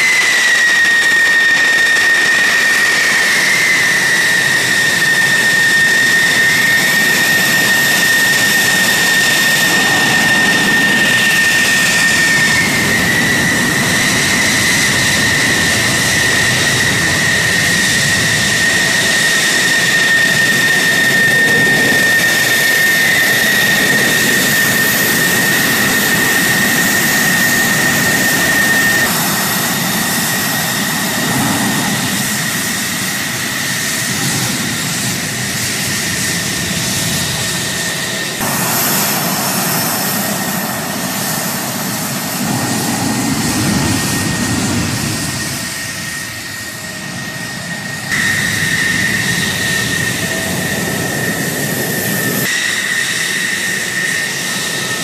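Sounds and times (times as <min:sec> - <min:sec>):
jet engine whine and exhaust roar: 0:00.0 - 0:55.0.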